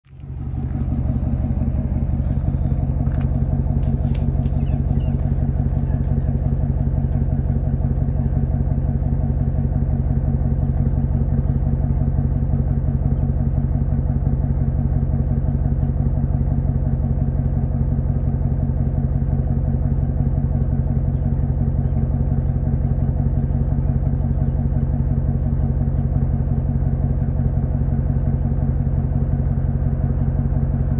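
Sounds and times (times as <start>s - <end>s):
vehicle engine idling: 0.0s - 30.9s.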